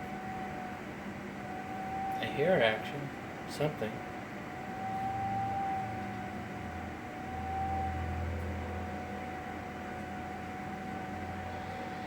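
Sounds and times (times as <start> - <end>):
microwave oven humming: 0.0 - 12.0
thin wavering high tone: 0.0 - 12.0.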